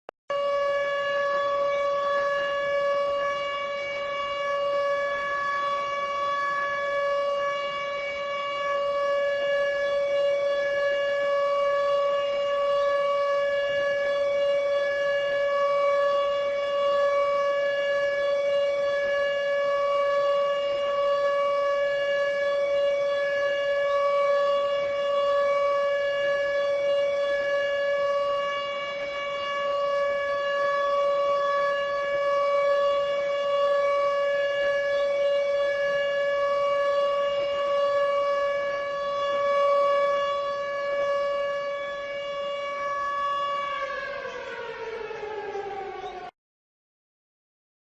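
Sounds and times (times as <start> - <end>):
warning siren steady tone: 0.3 - 46.4.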